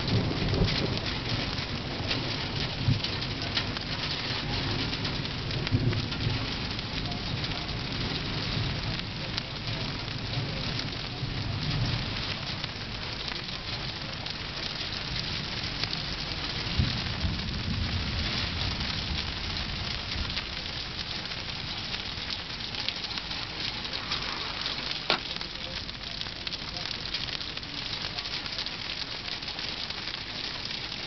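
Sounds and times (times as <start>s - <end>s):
heavy rain pouring: 0.0s - 31.0s
thunder rumbles: 0.0s - 31.0s.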